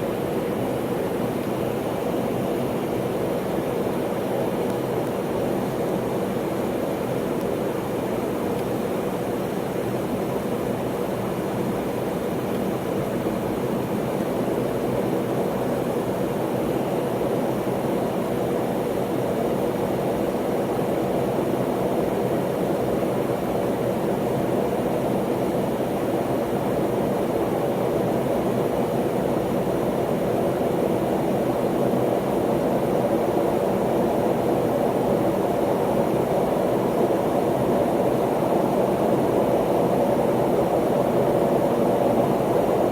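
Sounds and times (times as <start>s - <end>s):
jet airliner cabin drone: 0.0s - 42.9s.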